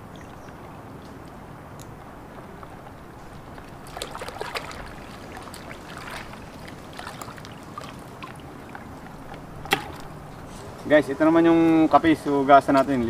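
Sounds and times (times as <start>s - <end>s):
water splashing and sloshing: 0.0s - 10.9s.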